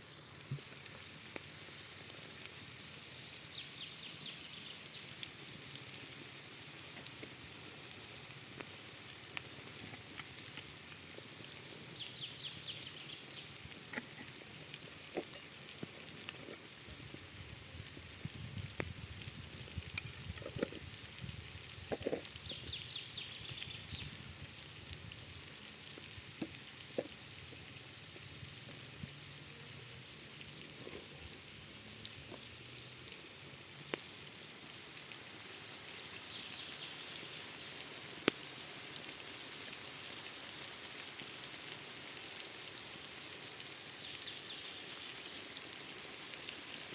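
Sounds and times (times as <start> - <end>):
campfire crackling and popping: 0.0 - 46.9
food sizzling in a pan: 0.0 - 46.9.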